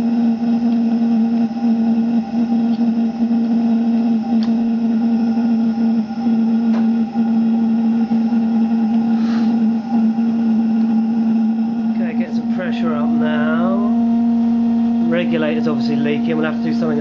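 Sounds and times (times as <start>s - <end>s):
gas burner hum: 0.0s - 17.0s.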